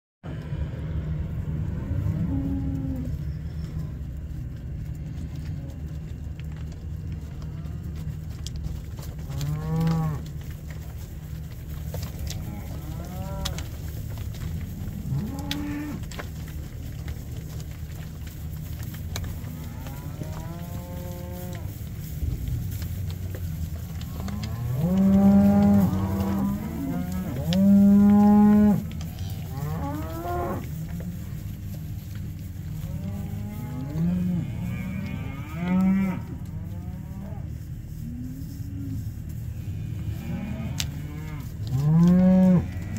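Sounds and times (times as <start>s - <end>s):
low background noise: 0.3s - 42.9s
cows mooing: 1.4s - 4.2s, 5.0s - 11.0s, 11.6s - 39.0s, 39.6s - 42.9s.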